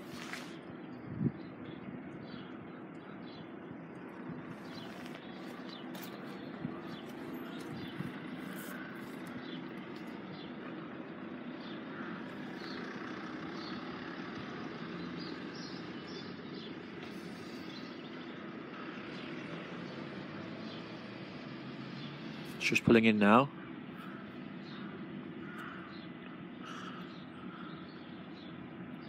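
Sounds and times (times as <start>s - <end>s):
diesel train engine hum: 0.0s - 29.0s
small birds chirping: 0.1s - 29.0s.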